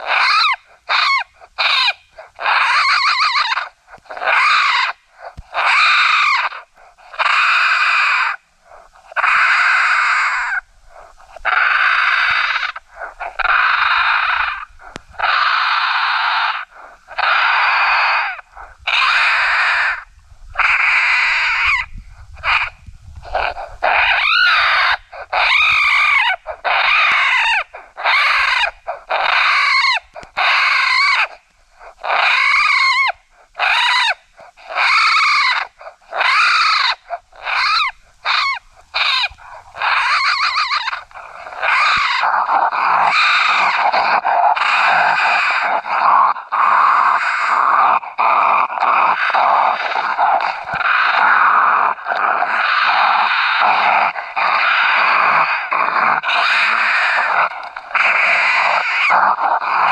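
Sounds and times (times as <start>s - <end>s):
raccoons squalling and screaming: 0.0s - 59.9s.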